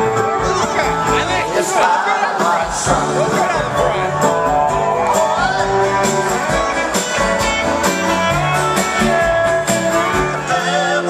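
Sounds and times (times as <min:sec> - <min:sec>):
steady drum beat: 0:00.0 - 0:10.7
guitar playing: 0:00.0 - 0:11.0.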